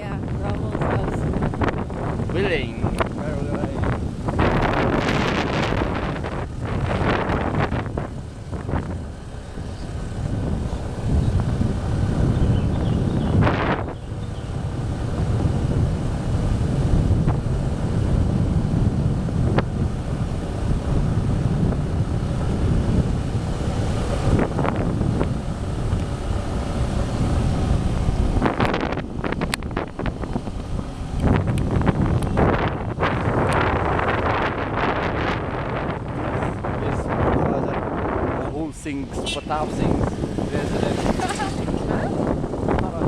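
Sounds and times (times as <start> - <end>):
motorcycle engine running: 0.0 - 37.4
wind buffeting microphone: 0.0 - 43.0.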